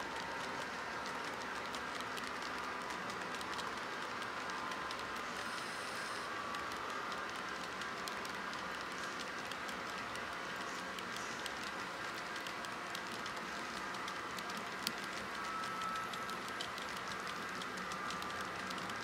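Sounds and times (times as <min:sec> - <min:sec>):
model train wheels rumbling on rail: 0:00.0 - 0:19.0.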